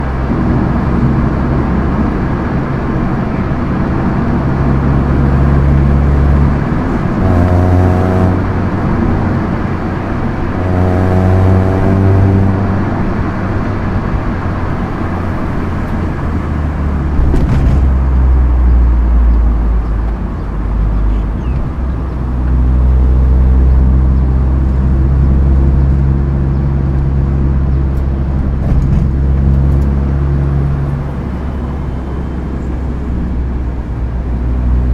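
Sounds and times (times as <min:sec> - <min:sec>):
car engine accelerating: 0:00.0 - 0:34.9
road noise: 0:00.0 - 0:34.9.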